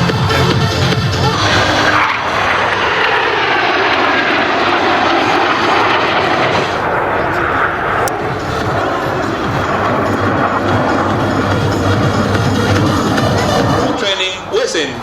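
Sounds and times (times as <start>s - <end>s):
jet fighters flying past: 0.0s - 15.0s.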